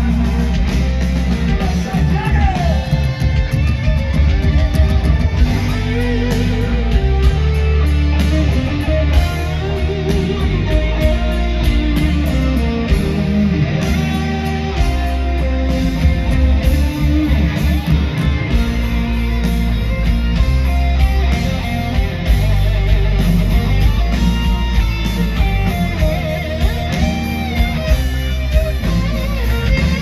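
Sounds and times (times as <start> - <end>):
bass guitar: 0.0 - 30.0
drums: 0.0 - 30.0
electric guitar melody with vibrato: 0.0 - 30.0.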